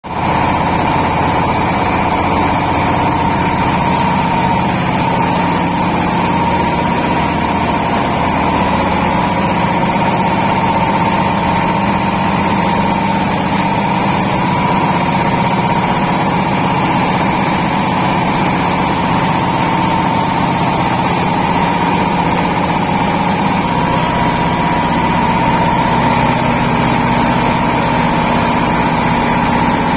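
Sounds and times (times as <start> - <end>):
rice milling machine running: 0.1 - 29.9.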